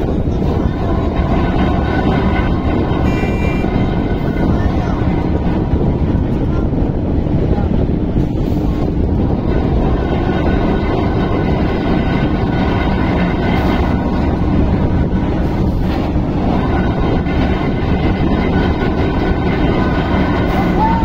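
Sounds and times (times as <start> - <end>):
crane engine rumbling: 0.0 - 21.0.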